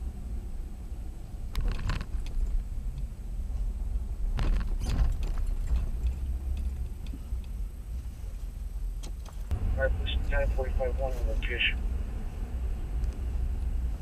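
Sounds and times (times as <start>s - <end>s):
car cabin rumble: 0.0s - 14.0s.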